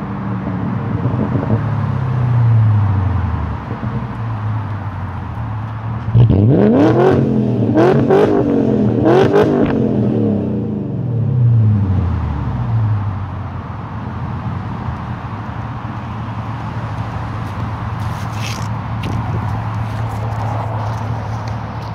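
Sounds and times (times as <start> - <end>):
car engine idling and revving: 0.0 - 21.9.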